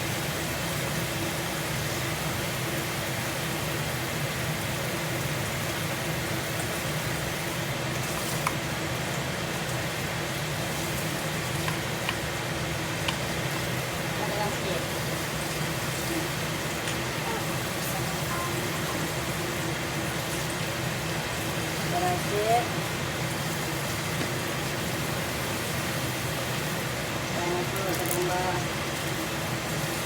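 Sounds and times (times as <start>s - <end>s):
exhaust fan humming: 0.0s - 30.0s.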